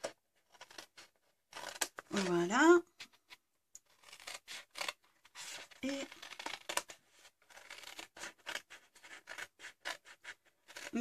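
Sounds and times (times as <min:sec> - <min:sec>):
scissors snipping paper: 0:00.0 - 0:02.8, 0:03.8 - 0:11.0.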